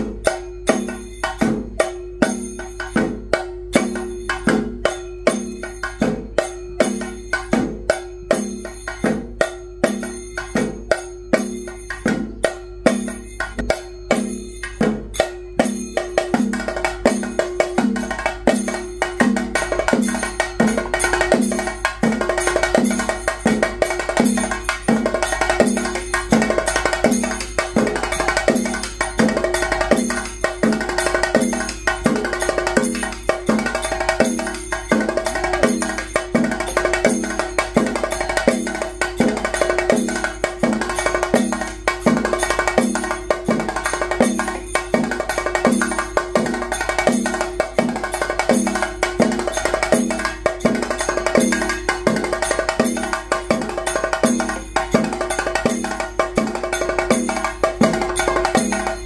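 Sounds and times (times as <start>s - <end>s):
held tone: 0.0s - 55.9s
drums beating: 0.0s - 59.0s.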